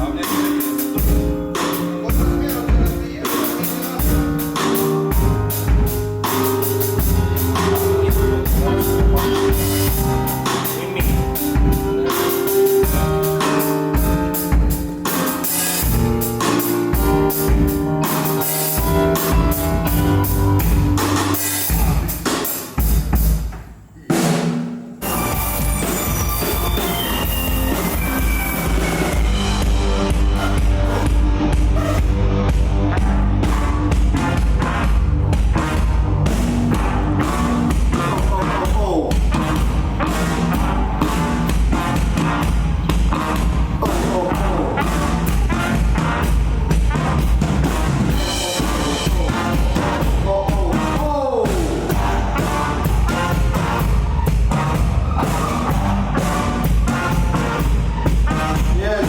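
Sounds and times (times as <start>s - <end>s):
bass line: 0.0s - 23.3s, 25.0s - 59.0s
drum kit beating: 0.0s - 59.0s
rock band playing live: 0.0s - 59.0s.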